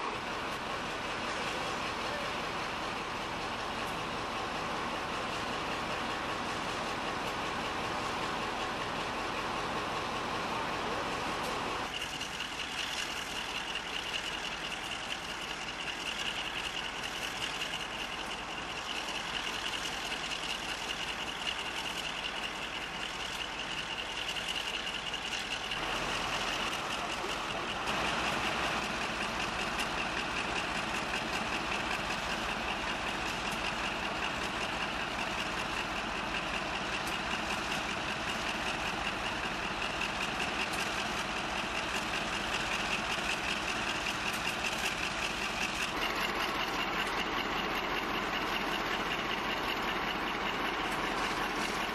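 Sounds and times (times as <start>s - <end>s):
diesel locomotive engine running: 0.0s - 51.9s.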